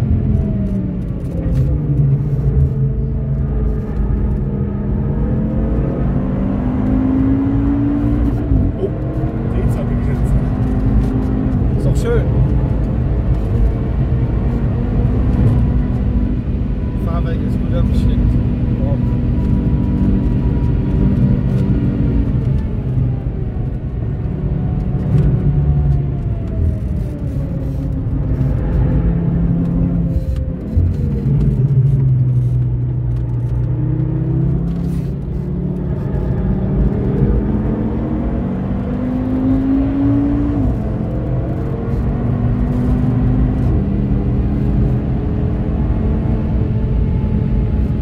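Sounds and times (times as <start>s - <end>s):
car engine accelerating and shifting: 0.0s - 48.0s.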